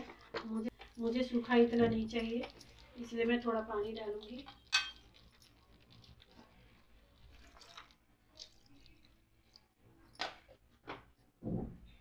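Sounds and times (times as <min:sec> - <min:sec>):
water poured into curry: 0:00.0 - 0:09.7.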